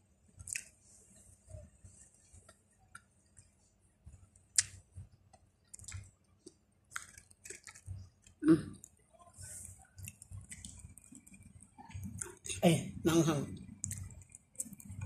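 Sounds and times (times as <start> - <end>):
person chewing food: 0.4 - 1.7, 2.3 - 12.5, 13.6 - 15.0.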